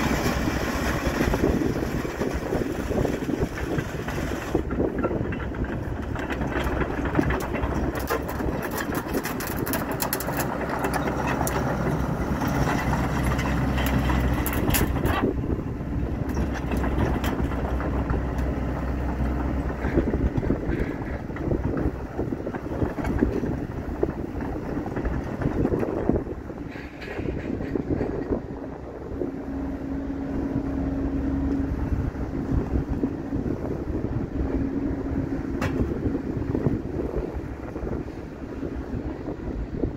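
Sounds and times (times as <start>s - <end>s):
excavator diesel engine drone: 0.0s - 39.9s
tracks rattling and clanking: 0.0s - 39.9s.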